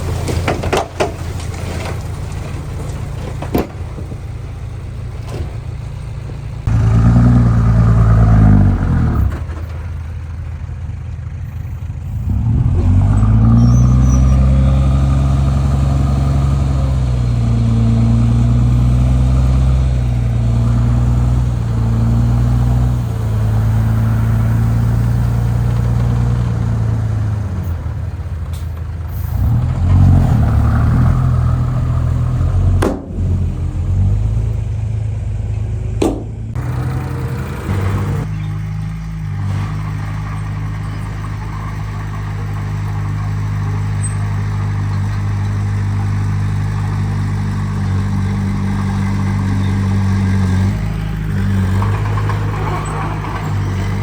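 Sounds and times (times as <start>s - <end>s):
heavy diesel engine revving: 3.3s - 54.0s.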